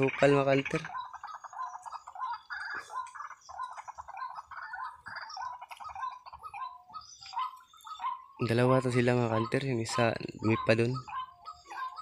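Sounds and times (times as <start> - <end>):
birds chattering: 0.0 - 12.0.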